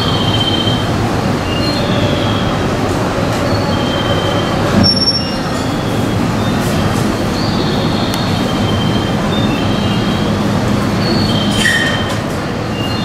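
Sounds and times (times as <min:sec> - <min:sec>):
train rumble: 0:00.0 - 0:13.0
train wheels squealing: 0:00.0 - 0:13.0.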